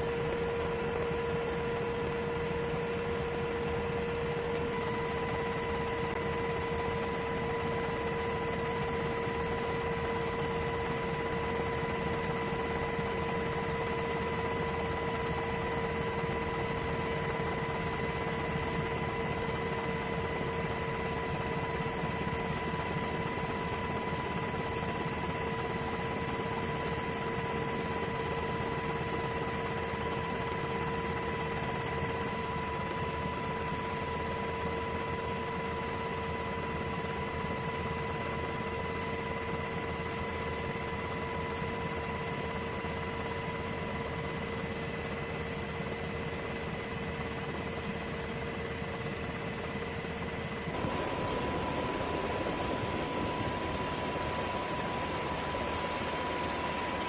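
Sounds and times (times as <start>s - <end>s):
constant high whine: 0.0s - 57.0s.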